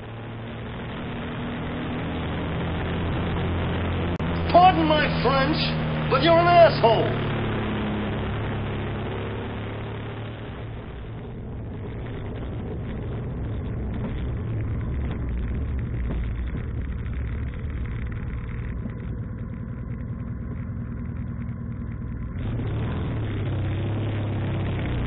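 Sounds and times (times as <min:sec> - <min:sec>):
road and wind hiss: 0:00.0 - 0:25.0
vehicle engine idling hum: 0:00.0 - 0:25.0.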